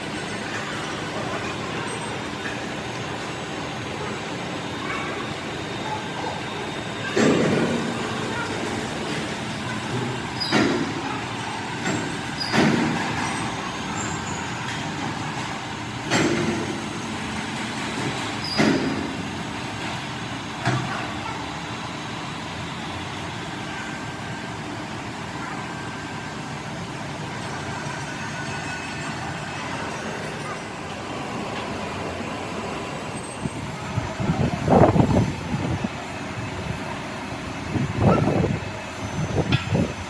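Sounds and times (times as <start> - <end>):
steady mechanical running noise: 0.0 - 40.0.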